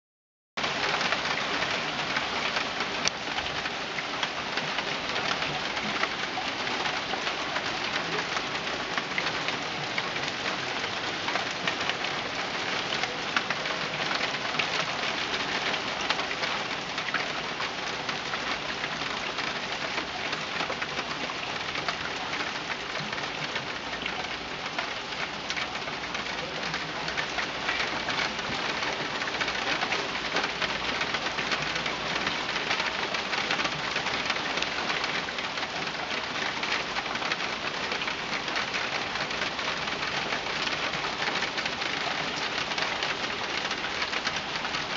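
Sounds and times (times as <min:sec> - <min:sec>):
rain pattering on leaves and paving: 0:00.6 - 0:44.9.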